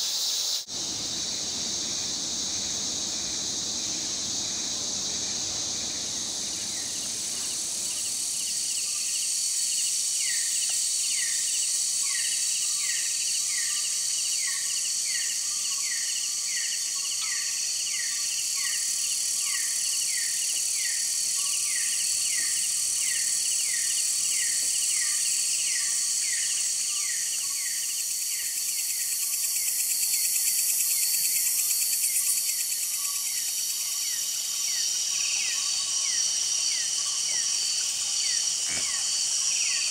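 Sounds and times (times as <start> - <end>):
insects shrill buzzing: 0.0 - 39.9.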